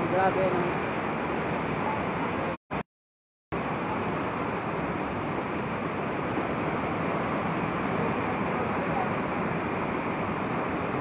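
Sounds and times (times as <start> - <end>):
heavy rain: 0.0 - 2.6, 3.6 - 11.0
wind: 0.0 - 2.9, 3.5 - 11.0.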